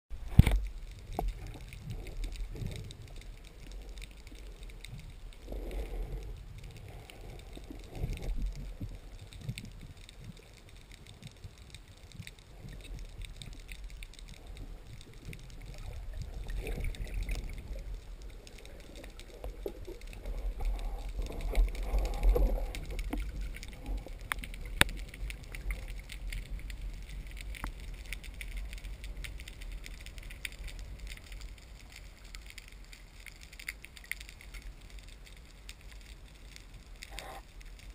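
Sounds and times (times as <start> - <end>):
muffled underwater rumble: 0.1 - 37.9
faint sharp clicks: 0.2 - 37.9.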